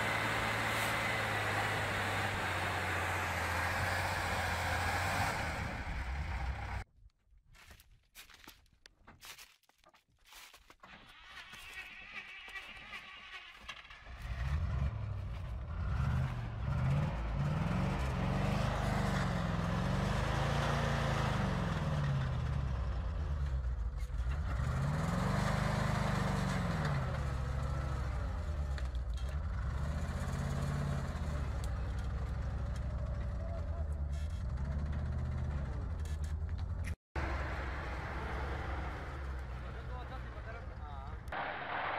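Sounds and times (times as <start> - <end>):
truck engine labouring: 0.0 - 6.9, 11.7 - 41.9.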